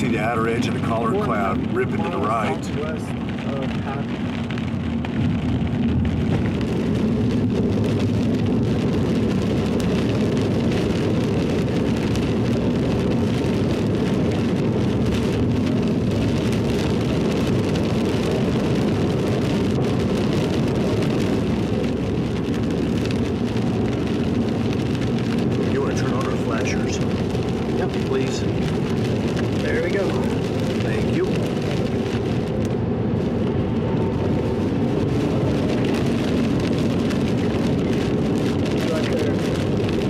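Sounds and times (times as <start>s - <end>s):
rain hitting windshield: 0.0s - 40.0s
vehicle road and engine noise: 0.0s - 40.0s.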